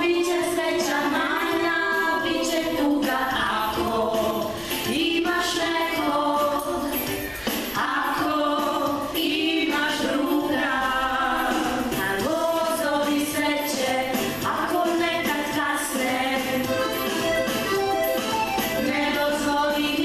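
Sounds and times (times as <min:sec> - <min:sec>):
woman and girl singing: 0:00.0 - 0:07.0, 0:07.8 - 0:16.6, 0:18.8 - 0:20.0.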